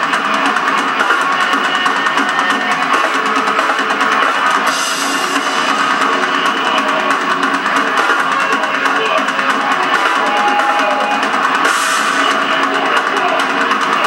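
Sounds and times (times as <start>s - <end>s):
distorted electric guitar: 0.0s - 14.0s
fast drums with cymbals: 0.0s - 14.0s.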